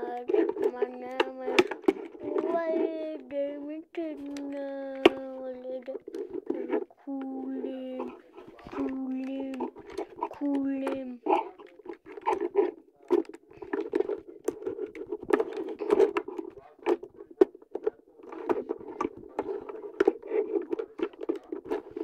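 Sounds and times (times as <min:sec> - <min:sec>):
plastic toy parts clicking: 0:00.0 - 0:03.2, 0:04.1 - 0:06.9, 0:07.8 - 0:22.0.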